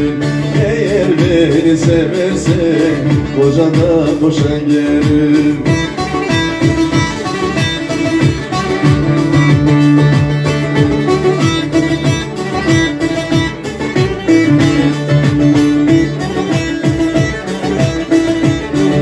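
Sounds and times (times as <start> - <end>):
bowed string instrument: 0.0 - 19.0
plucked string melody: 0.0 - 19.0
steady beat: 0.0 - 19.0.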